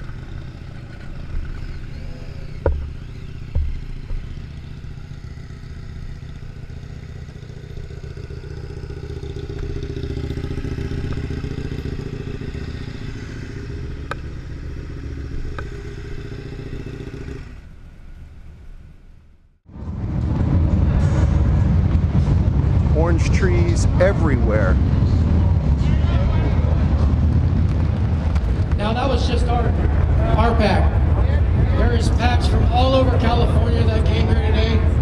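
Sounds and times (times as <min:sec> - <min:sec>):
motorcycle engines running: 0:00.0 - 0:35.0.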